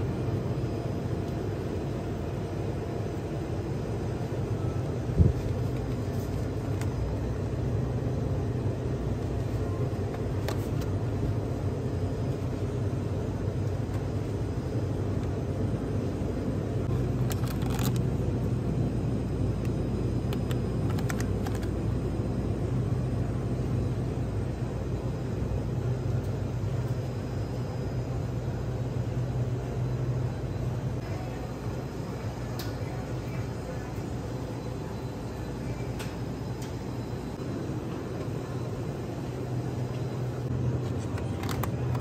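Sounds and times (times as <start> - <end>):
refrigeration machinery hum: 0.0 - 42.0.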